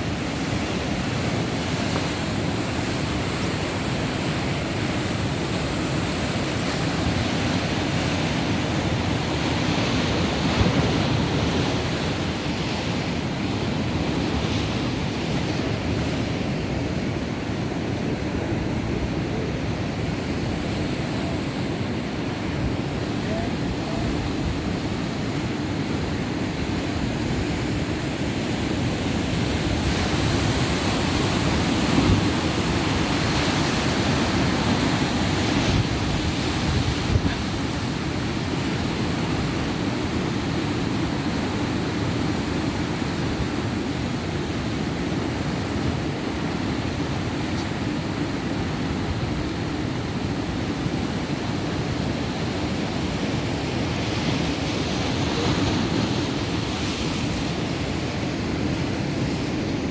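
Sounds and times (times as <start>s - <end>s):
heavy surf breaking on shore: 0.0s - 59.9s.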